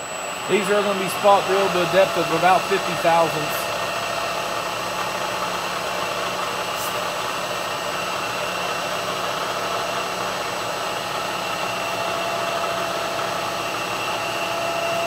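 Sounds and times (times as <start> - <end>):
milling spindle hum and whine: 0.0 - 15.0.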